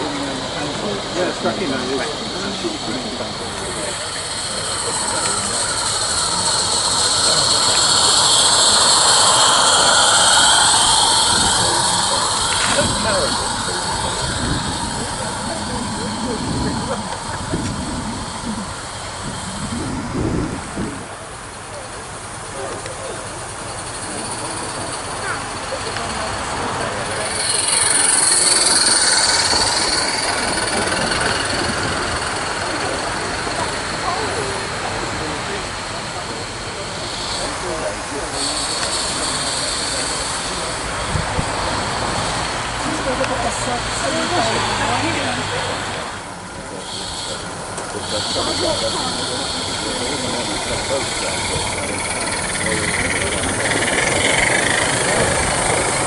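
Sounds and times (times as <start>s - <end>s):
engine passing by: 0.0s - 56.0s
high wheel squeal: 0.0s - 56.0s
train rolling on rails: 0.0s - 56.0s.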